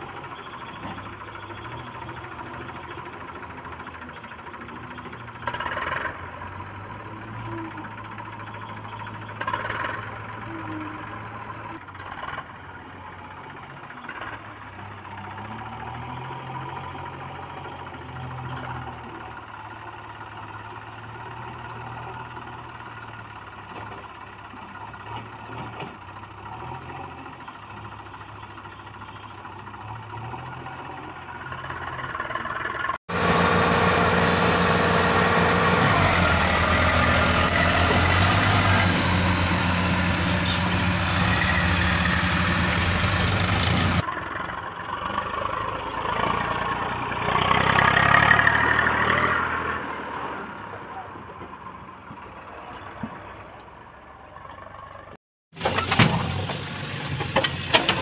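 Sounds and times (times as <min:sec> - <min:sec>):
backhoe loader diesel engine revving: 0:00.0 - 0:58.0
tractor diesel engine: 0:00.0 - 0:58.0.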